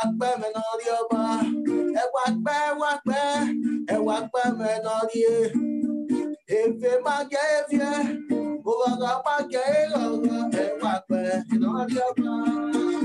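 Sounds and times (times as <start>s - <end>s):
man singing: 0.0s - 5.8s, 6.4s - 13.0s
acoustic guitar strumming: 0.0s - 13.0s.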